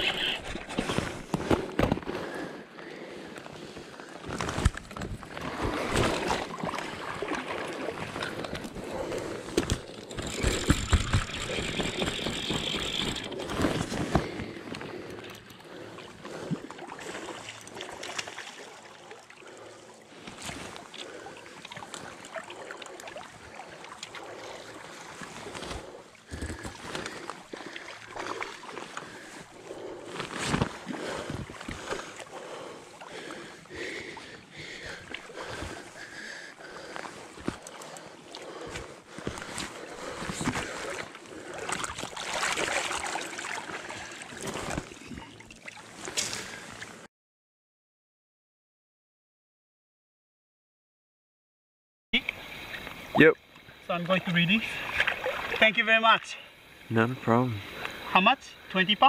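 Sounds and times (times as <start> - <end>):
water splashing and sloshing: 0.0 - 47.1, 52.8 - 56.9.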